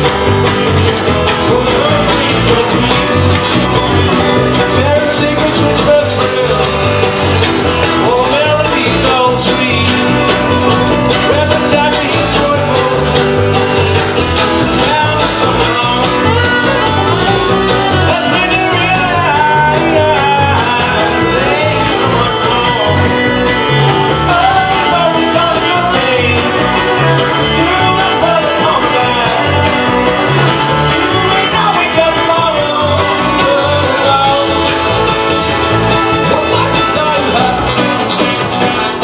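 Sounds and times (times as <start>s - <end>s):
person singing: 0.0s - 38.1s
banjo: 0.0s - 39.0s
strummed guitar: 0.0s - 39.0s
upright bass plucking: 0.0s - 39.0s.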